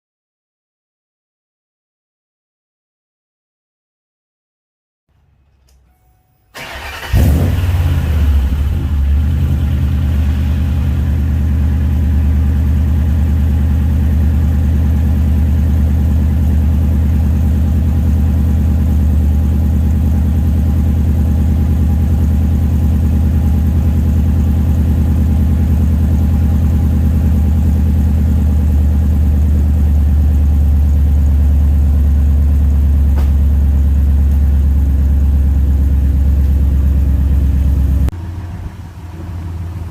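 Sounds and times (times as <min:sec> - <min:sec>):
engine starting and idling: 0:05.1 - 0:39.9.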